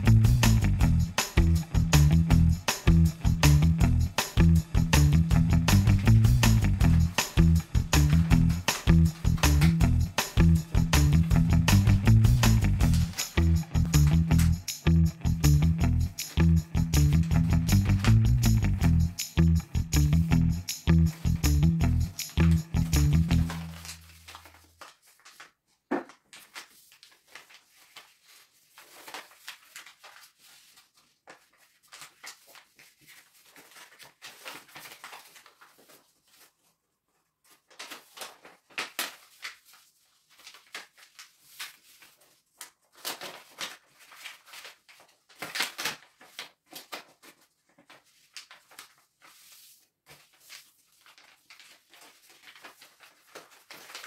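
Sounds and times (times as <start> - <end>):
paper rustling and crinkling: 5.6 - 11.4, 12.1 - 14.6, 16.2 - 18.6, 20.9 - 54.0.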